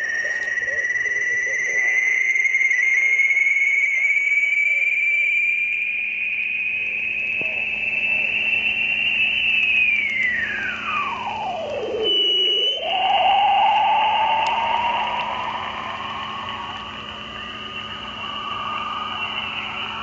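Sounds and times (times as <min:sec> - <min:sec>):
receiver hiss: 0:00.0 - 0:20.0
steady hum: 0:00.0 - 0:20.0
whistling radio tone: 0:00.0 - 0:20.0.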